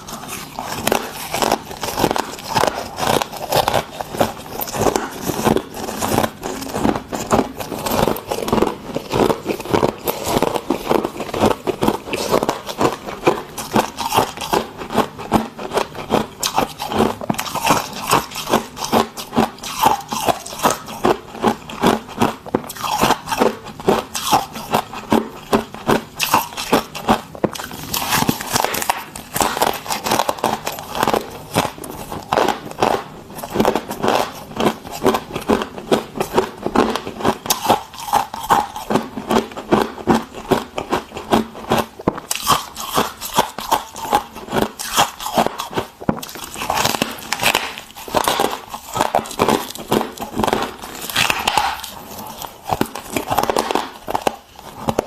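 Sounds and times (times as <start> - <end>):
frost being chewed crunching: 0.0 - 55.0.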